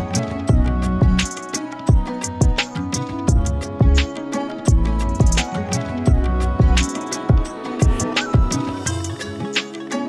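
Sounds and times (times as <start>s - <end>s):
music with plucked strings: 0.0s - 10.0s.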